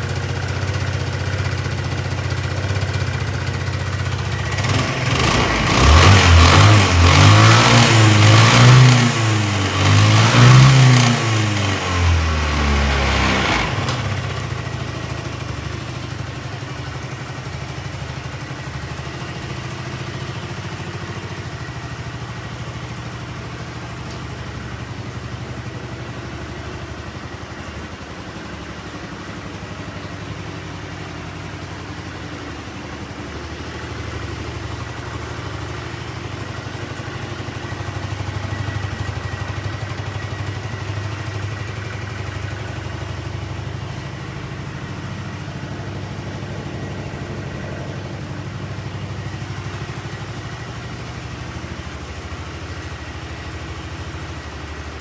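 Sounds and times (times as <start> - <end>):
scooter engine idling: 0.0 - 55.0.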